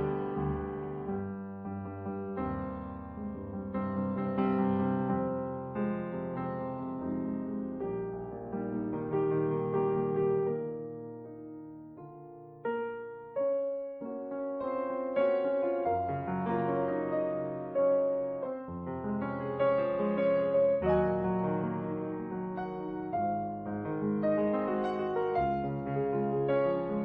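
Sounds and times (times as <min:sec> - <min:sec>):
slow solo piano: 0:00.0 - 0:27.0.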